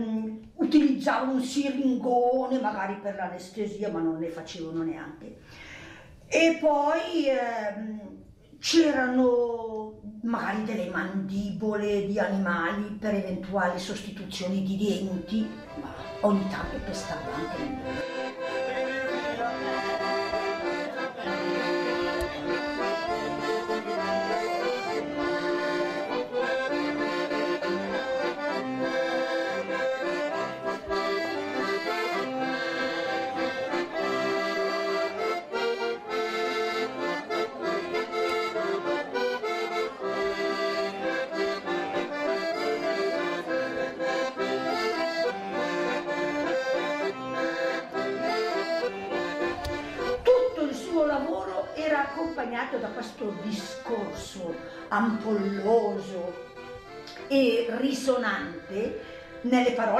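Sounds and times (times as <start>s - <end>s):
accordion folk tune: 0.0s - 7.1s, 10.4s - 59.9s.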